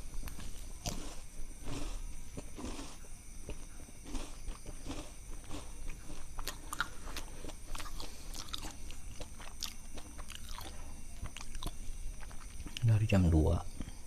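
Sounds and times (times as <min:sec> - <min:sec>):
person chewing crunchy snack: 0:00.0 - 0:12.9.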